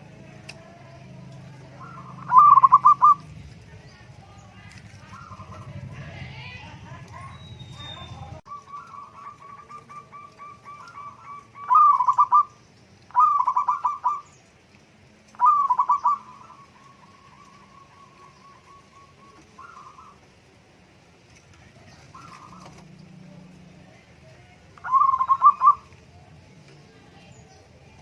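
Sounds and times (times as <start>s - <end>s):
dove cooing: 0.2s - 3.5s, 4.8s - 14.4s, 15.3s - 20.6s, 21.6s - 27.4s.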